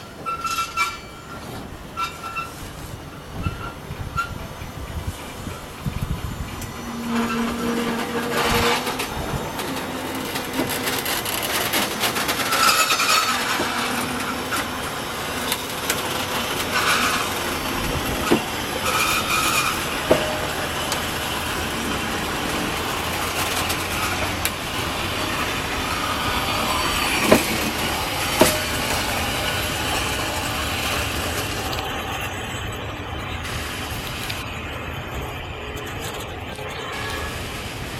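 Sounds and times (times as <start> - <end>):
train wheels rolling on rail: 0.0 - 37.9
wheel squeals: 0.0 - 37.9.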